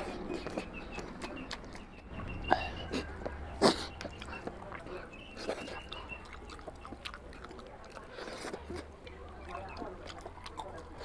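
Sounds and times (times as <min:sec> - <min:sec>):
man chewing food: 0:00.0 - 0:11.0.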